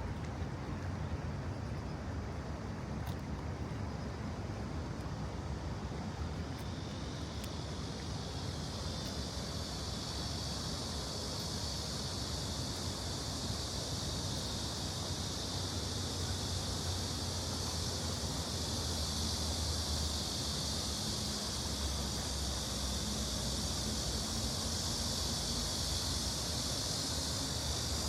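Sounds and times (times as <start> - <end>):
low rumble of city traffic: 0.0 - 28.0
stream water rushing: 0.0 - 28.0.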